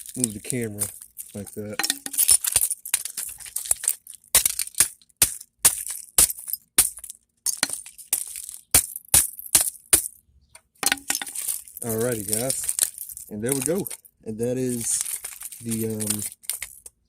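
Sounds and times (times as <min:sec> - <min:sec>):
hand tools clinking on metal: 0:00.0 - 0:08.6, 0:10.8 - 0:17.0.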